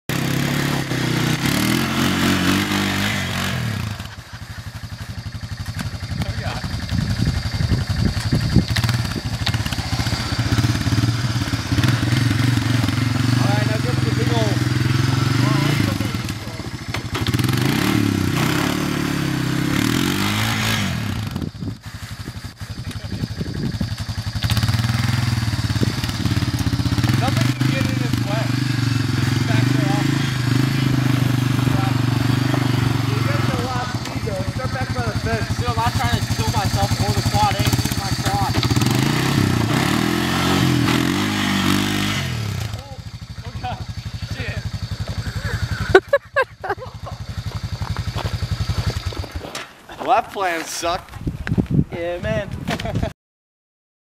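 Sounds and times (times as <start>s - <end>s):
atv engine revving and idling: 0.1s - 49.6s.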